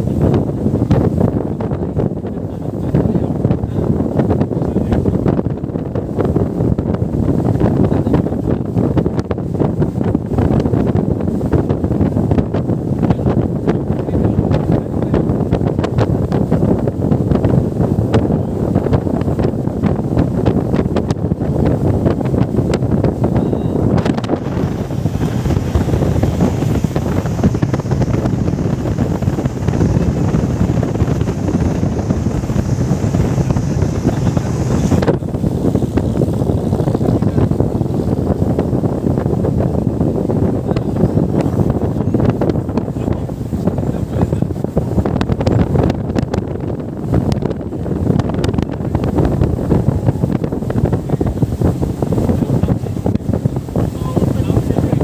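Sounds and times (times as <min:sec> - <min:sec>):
boat running through water: 0:00.0 - 0:55.0
wind buffeting microphone: 0:00.0 - 0:55.0.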